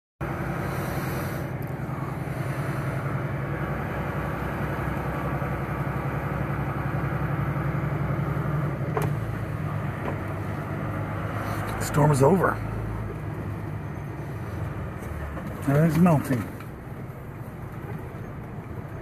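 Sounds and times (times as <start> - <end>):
diesel truck engine drone: 0.2 - 19.0.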